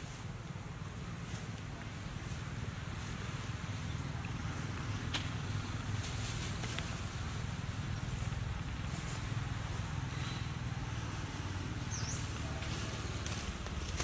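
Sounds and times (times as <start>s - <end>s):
low continuous rumble: 0.0s - 14.0s
soft hiss: 0.0s - 14.0s.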